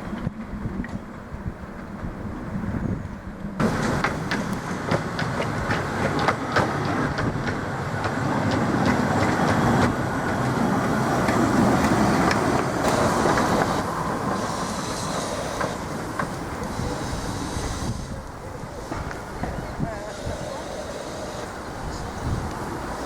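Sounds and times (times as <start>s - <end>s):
train rumbling on track: 0.0s - 23.0s
wheels clicking over rail joints: 0.0s - 23.0s.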